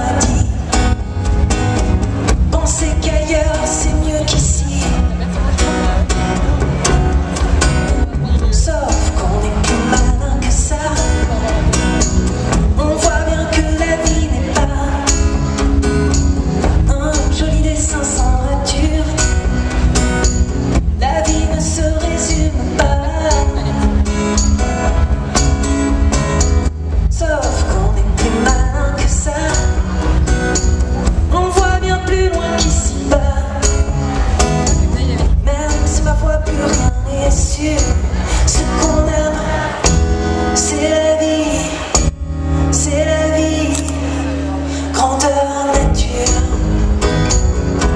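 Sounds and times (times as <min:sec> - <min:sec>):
man singing: 0:00.0 - 0:25.5, 0:26.9 - 0:47.9
acoustic guitars: 0:00.0 - 0:47.9.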